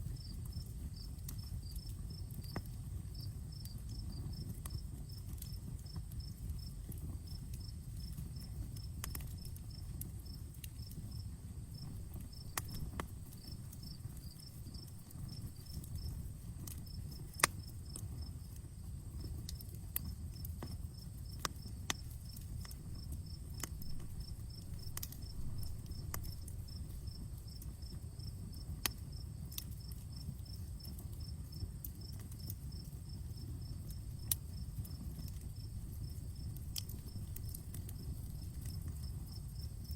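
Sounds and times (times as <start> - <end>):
crickets chirping: 0.0 - 19.3, 20.1 - 39.9
campfire crackling: 0.0 - 39.9.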